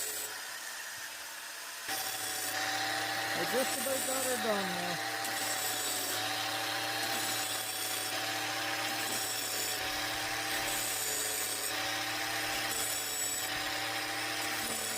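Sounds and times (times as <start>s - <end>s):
angle grinder grinding metal: 0.0s - 14.9s.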